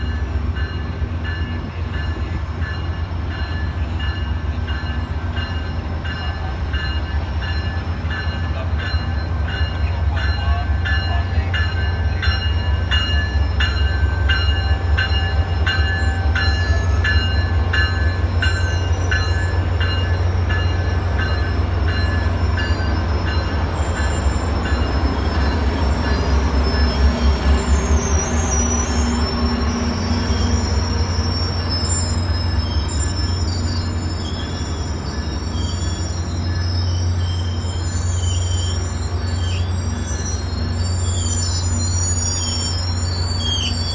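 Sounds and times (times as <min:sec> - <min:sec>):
train rumbling past: 0:00.0 - 0:43.9
wheels squealing on rails: 0:01.2 - 0:43.9.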